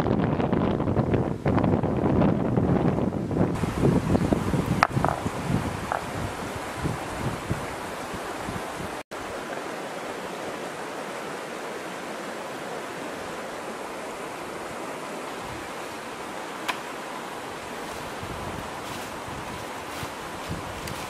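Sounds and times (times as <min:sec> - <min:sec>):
flowing river water: 0:03.6 - 0:21.0.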